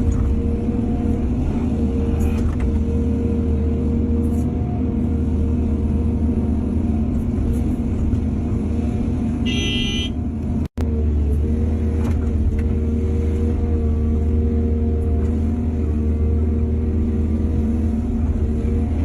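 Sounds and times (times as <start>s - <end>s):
heavy diesel machinery droning: 0.0s - 19.0s.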